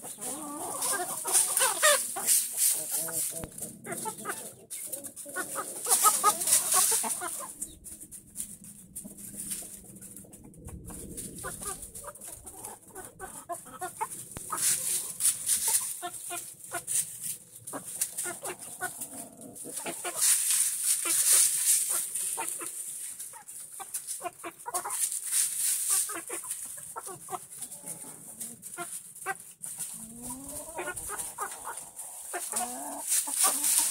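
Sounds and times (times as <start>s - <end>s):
wood chips rustling: 0.0s - 10.2s, 10.9s - 33.9s
chickens clucking: 0.0s - 33.9s.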